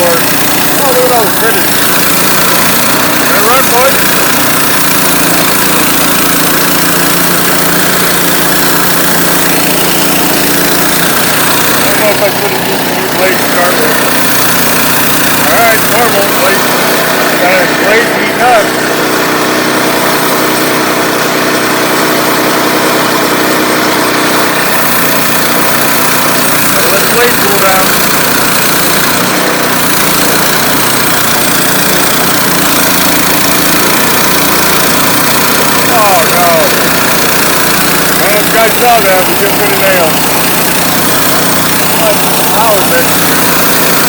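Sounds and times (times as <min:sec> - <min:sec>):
saw blade cutting log: 0:00.0 - 0:44.0
sawmill engine running: 0:00.0 - 0:44.0.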